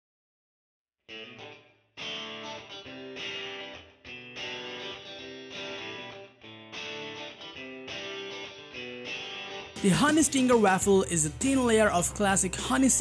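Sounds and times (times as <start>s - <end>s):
guitar playing chords: 1.1s - 13.0s.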